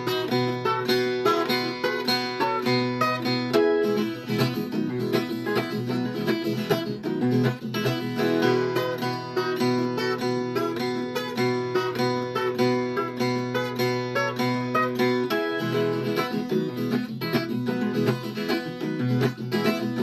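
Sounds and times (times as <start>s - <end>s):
guitar picked notes and strums: 0.0s - 20.0s.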